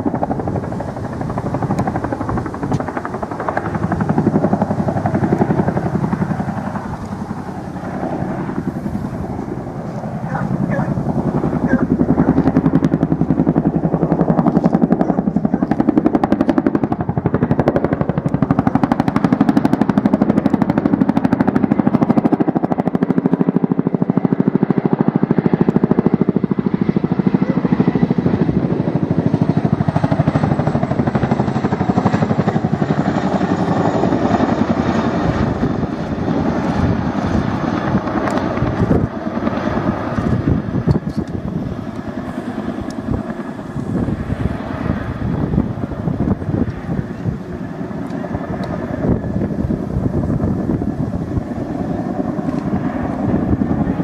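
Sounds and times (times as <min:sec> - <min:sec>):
helicopter rotor blade slap: 0:00.0 - 0:23.4, 0:24.0 - 0:54.0.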